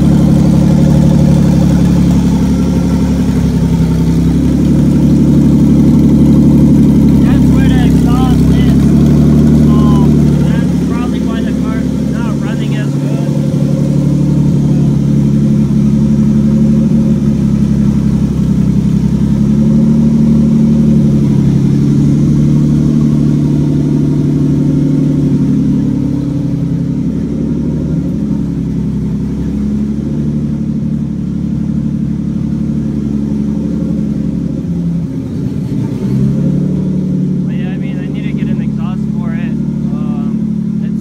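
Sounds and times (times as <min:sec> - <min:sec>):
loud car engine idling: 0:00.0 - 0:41.0.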